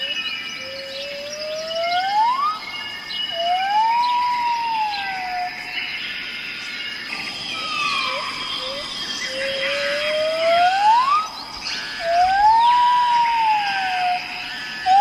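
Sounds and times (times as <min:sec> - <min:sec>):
bird whistled calls: 0:00.0 - 0:05.7, 0:07.1 - 0:15.0
small birds chirping and trilling: 0:00.0 - 0:15.0.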